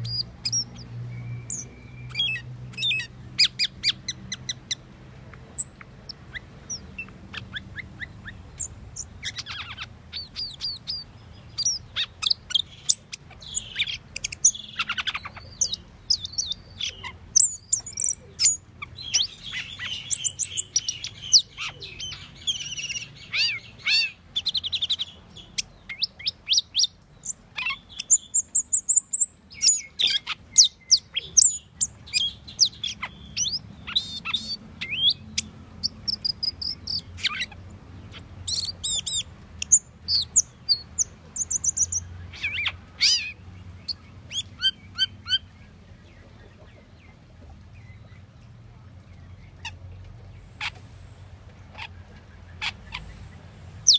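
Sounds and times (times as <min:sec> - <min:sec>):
starling singing chirps and whistles: 0:00.0 - 0:04.8, 0:05.6 - 0:37.5, 0:38.1 - 0:45.6.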